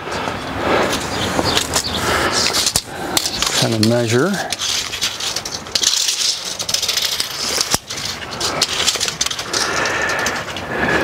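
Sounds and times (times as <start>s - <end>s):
tape measure rattling and clicking: 1.4s - 10.7s.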